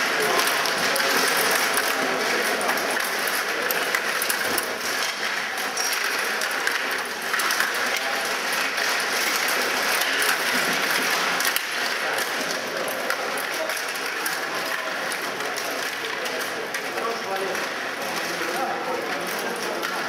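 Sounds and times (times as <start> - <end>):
plastic figures and puck clicking: 0.0 - 20.0
table hockey rods rattling: 0.0 - 20.0.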